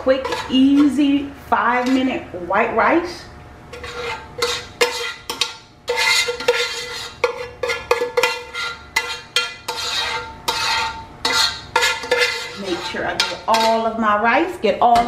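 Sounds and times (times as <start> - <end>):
metal spoon scraping a pot: 0.0 - 2.2, 3.7 - 14.0.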